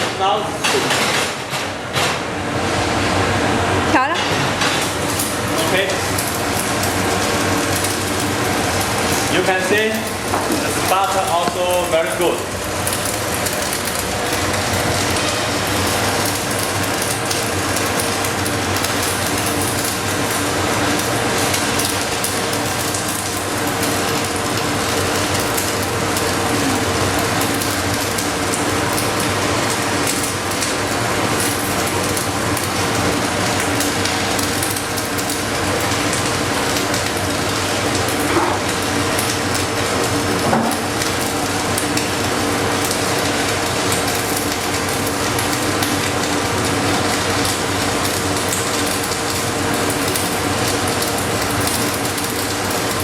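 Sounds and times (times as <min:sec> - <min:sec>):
welding arc crackling sizzle: 0:00.0 - 0:53.0.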